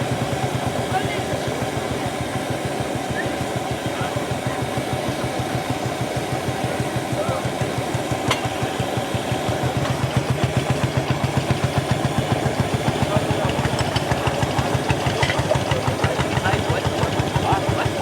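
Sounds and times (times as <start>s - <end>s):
engine pulsing beat: 0.0s - 18.0s.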